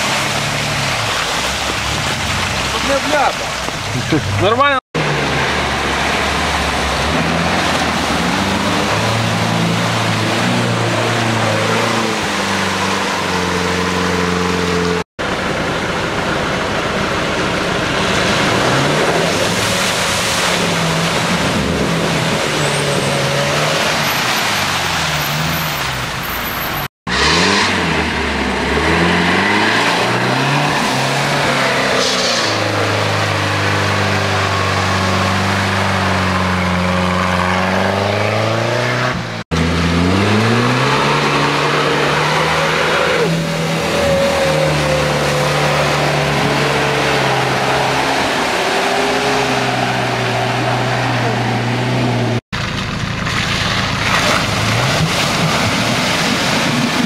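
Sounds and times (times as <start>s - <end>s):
off-road engines revving hard: 0.0s - 15.1s, 17.8s - 52.4s, 53.3s - 57.0s.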